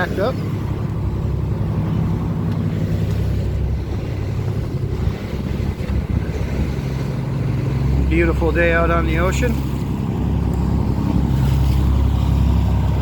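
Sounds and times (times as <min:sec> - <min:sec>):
boat engines droning: 0:00.0 - 0:13.0
wind on microphone: 0:00.5 - 0:13.0.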